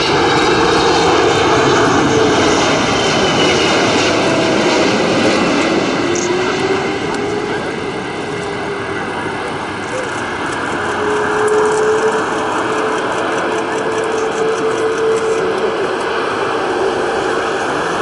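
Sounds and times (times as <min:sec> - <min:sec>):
jet engine whine: 0:00.0 - 0:18.0
jet engines roaring: 0:00.0 - 0:18.0.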